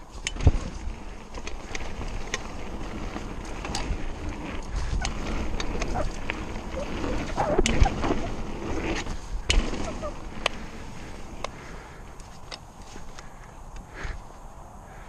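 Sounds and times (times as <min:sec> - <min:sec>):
tyres rushing on dirt: 0:00.0 - 0:13.4
bike clicking and rattling: 0:00.0 - 0:15.0.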